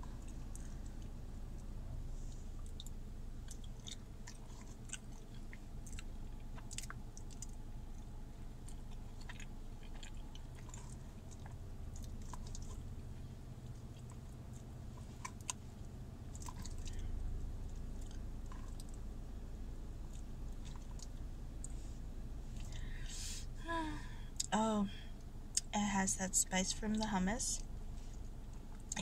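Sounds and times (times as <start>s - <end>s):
person chewing food: 0.0s - 23.4s
steady low hum: 0.0s - 29.0s.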